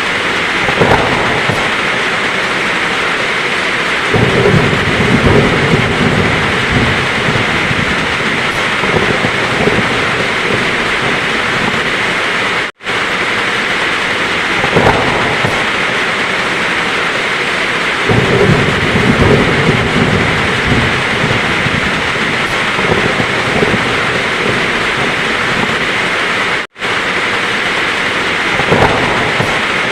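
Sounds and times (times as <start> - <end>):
heavy rain falling: 0.0 - 29.9
thunder rumbling: 0.0 - 29.9.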